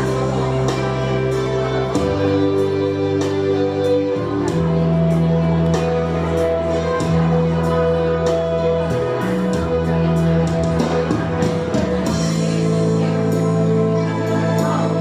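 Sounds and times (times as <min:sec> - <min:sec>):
instrumental music with sustained chords: 0:00.0 - 0:15.0
steady bass line: 0:00.0 - 0:15.0.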